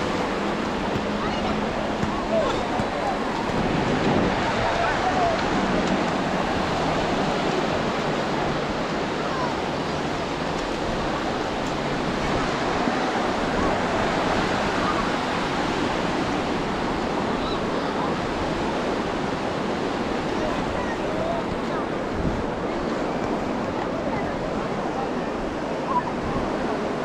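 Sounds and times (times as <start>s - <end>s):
waves breaking on a beach: 0.0s - 27.0s.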